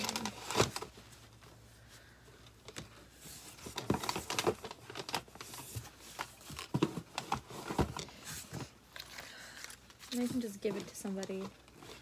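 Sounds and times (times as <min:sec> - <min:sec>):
packaging rustling: 0:00.0 - 0:01.6, 0:02.4 - 0:12.0.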